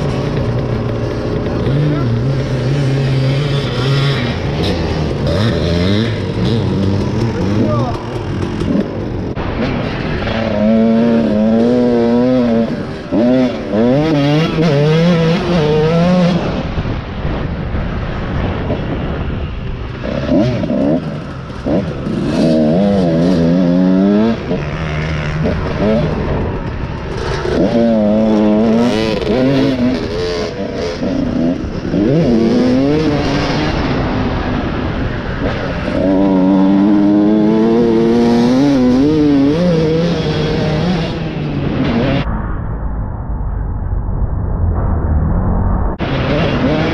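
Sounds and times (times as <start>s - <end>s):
motorcycle engine revving: 0.0s - 42.3s, 45.9s - 46.9s
wind rush: 0.0s - 46.9s.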